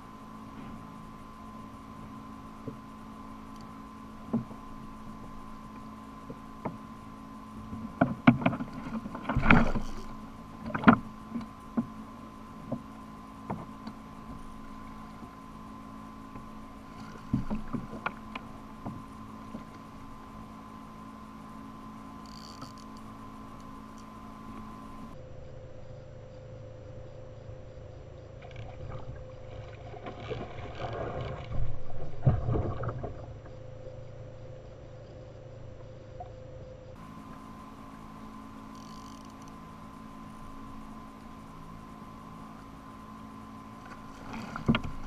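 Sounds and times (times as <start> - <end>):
steady hum: 0.0 - 45.0.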